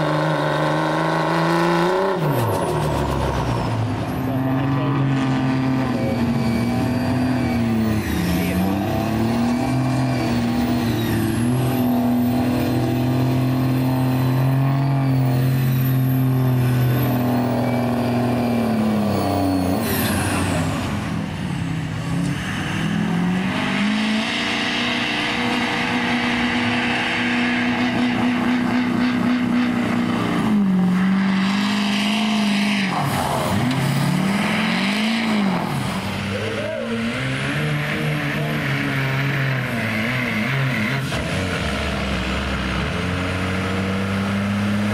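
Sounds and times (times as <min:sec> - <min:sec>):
diesel truck engine at full throttle: 0:00.0 - 0:44.9.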